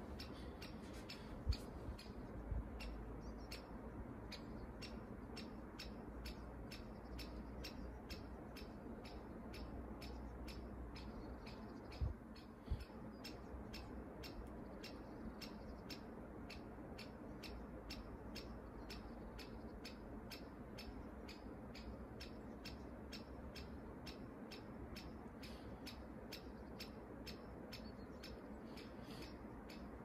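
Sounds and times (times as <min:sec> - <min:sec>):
clock ticking: 0:00.0 - 0:30.0.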